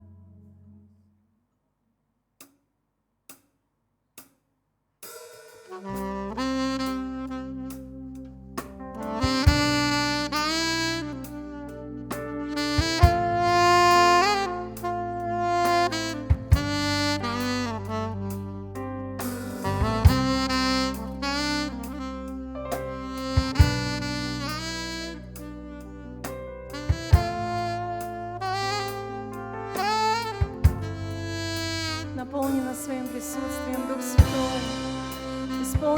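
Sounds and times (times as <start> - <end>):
drums: 5.0 - 8.0, 8.6 - 35.9
saxophone melody: 5.7 - 35.9.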